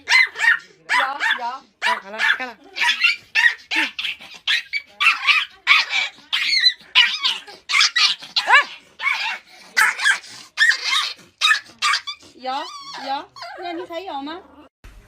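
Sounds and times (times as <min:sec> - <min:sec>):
dog barking and yipping: 0:00.0 - 0:13.7.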